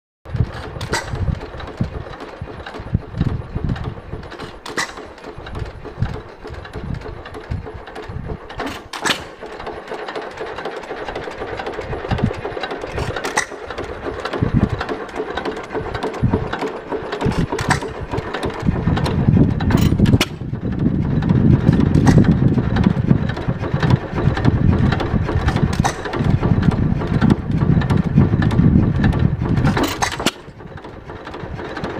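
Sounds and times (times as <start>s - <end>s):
gas engine firing thumps: 0.3s - 9.8s, 11.9s - 31.9s
sharp clicks: 0.4s - 31.9s.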